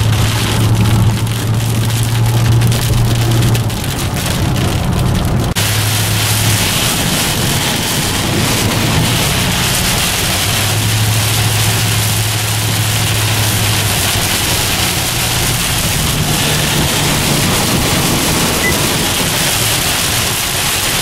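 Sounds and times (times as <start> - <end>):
heavy rain hitting car: 0.0 - 21.0
low car hum: 0.0 - 21.0.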